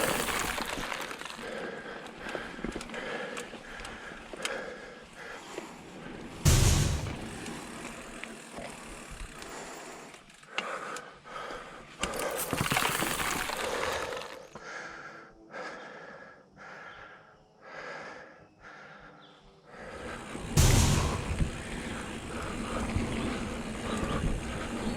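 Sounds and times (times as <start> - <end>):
person breathing hard: 0.0 - 7.6, 9.4 - 24.9
bike tyre and trail noise: 0.0 - 15.2, 19.7 - 24.9.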